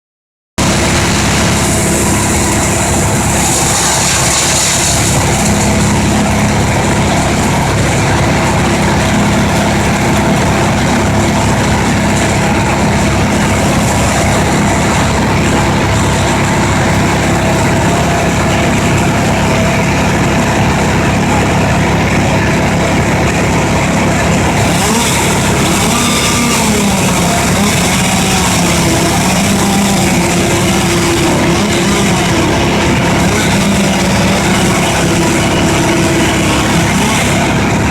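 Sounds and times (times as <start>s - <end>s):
wood chipper engine running: 0.6s - 37.9s.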